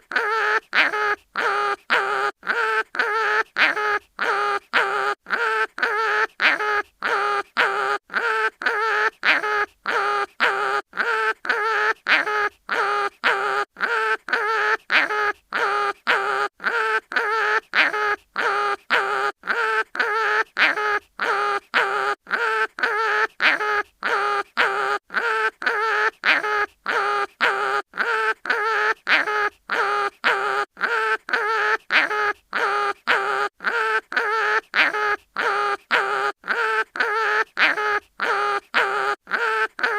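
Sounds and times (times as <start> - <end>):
cartoon animal yelping: 0.0 - 39.9.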